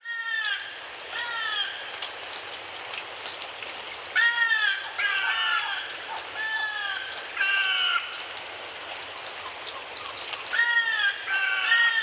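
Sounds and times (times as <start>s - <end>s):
gentle rain hiss: 0.0s - 12.0s.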